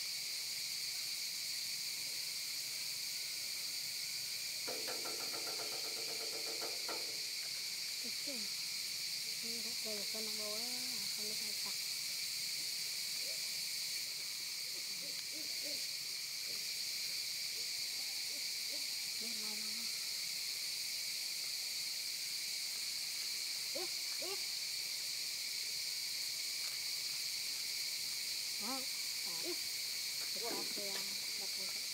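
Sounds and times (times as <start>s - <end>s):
insects droning: 0.0s - 31.9s.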